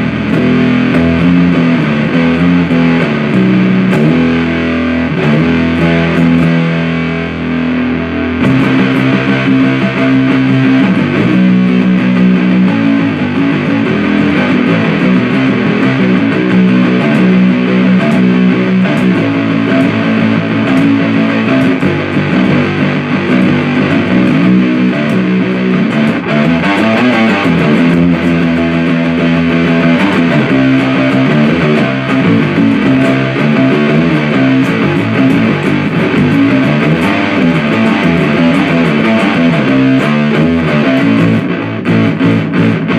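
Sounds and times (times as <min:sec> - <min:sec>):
distorted electric guitar riff: 0:00.0 - 0:42.9.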